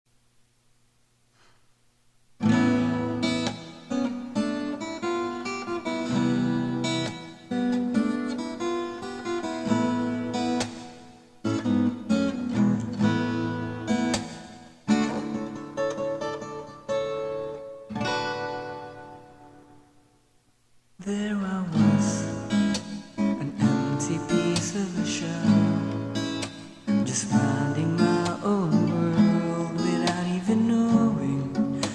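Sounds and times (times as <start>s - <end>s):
acoustic guitar chords: 2.4s - 31.9s.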